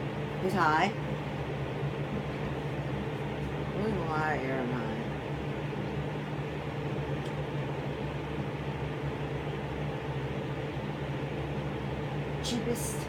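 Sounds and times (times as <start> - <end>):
box fan motor hum: 0.0 - 13.0.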